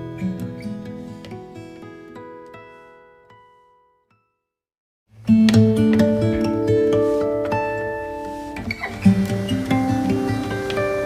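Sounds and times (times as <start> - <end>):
plucked acoustic guitar music: 0.0 - 3.9, 5.2 - 11.0.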